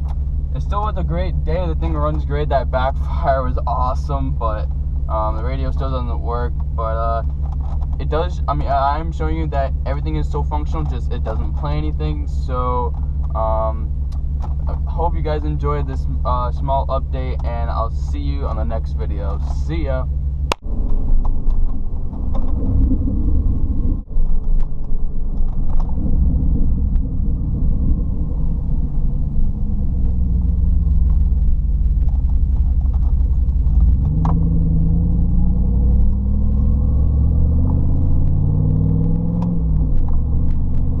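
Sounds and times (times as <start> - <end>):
engine rumbling and revving: 0.0 - 41.0.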